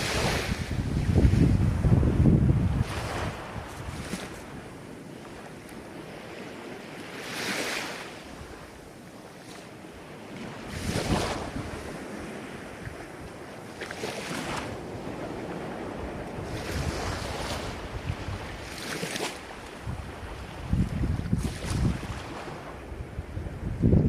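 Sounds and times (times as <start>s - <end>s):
ocean waves breaking: 0.0s - 23.9s.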